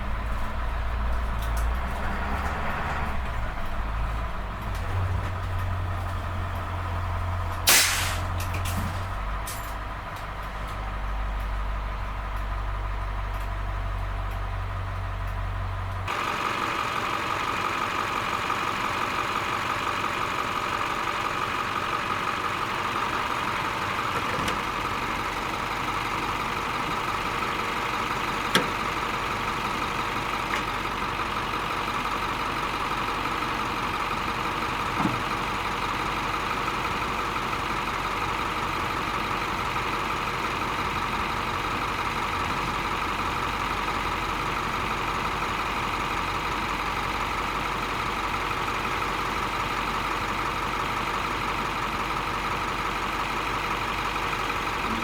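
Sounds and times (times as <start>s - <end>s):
engine whine: 0.0s - 47.3s
diesel bus engine running: 0.0s - 55.0s.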